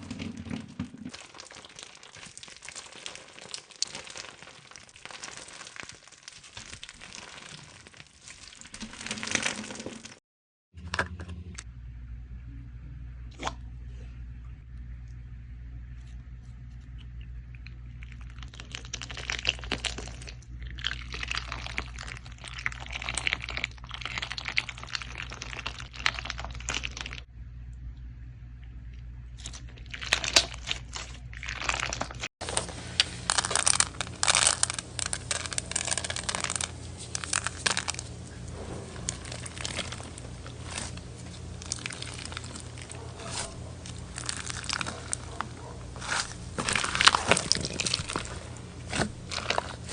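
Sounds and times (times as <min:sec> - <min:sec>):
crunchy slime crackling and popping: 0:01.1 - 0:10.2, 0:16.7 - 0:27.3, 0:29.3 - 0:49.9.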